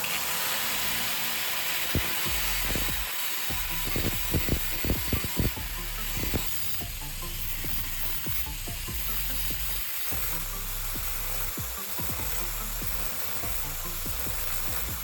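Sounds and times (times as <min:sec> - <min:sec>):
grinding metal rod hiss: 0:00.0 - 0:15.0.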